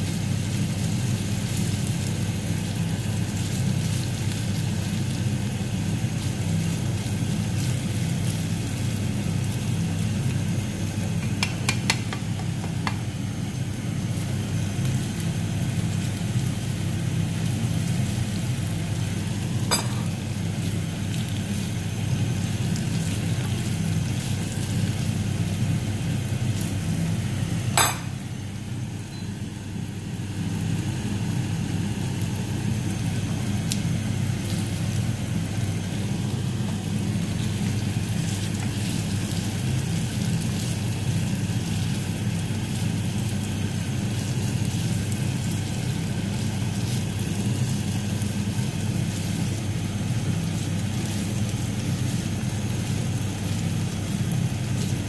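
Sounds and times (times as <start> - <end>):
meat sizzling in frying pan: 0.0 - 55.0.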